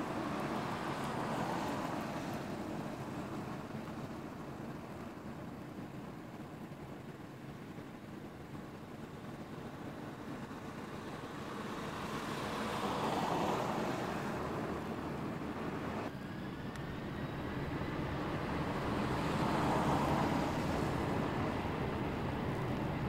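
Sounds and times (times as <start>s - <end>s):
freeway traffic rushing: 0.0s - 23.0s.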